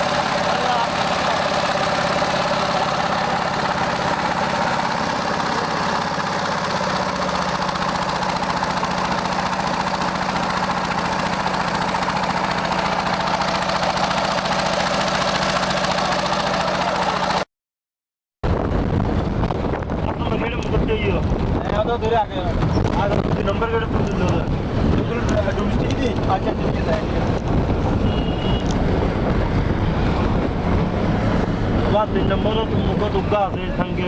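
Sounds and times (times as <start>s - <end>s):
boat engine humming: 0.0s - 17.4s, 23.4s - 34.0s.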